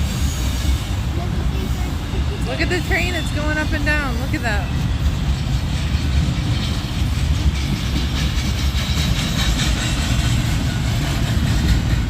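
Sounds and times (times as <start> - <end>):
freight train rolling past: 0.0 - 12.0
wheels clattering on rails: 0.0 - 12.0.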